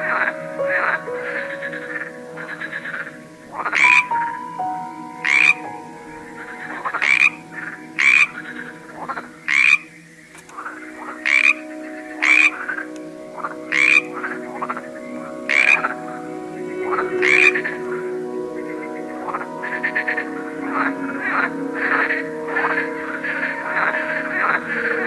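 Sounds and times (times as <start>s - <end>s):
frogs croaking: 0.0s - 25.0s.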